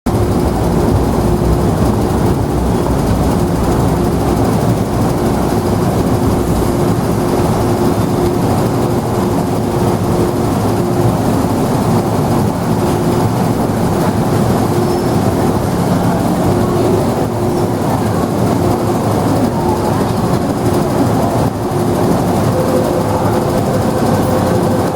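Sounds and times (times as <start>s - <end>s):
electrical hum: 0.1s - 24.9s
train rail rumble: 0.1s - 24.9s.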